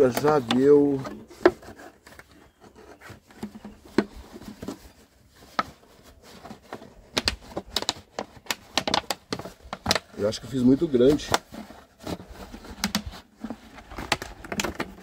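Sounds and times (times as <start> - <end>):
scrapes and taps on plastic: 0.0 - 10.4, 11.0 - 15.0.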